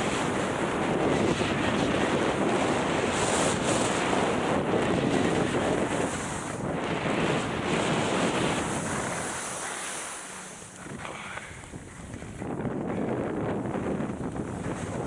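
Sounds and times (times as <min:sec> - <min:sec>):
skis scraping over snow: 0:00.0 - 0:12.8
wind rushing over microphone: 0:00.0 - 0:15.0.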